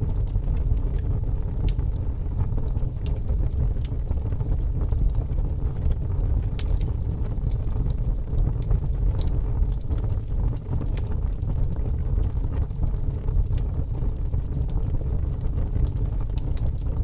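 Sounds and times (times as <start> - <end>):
logs crackling and popping: 0.0 - 17.0.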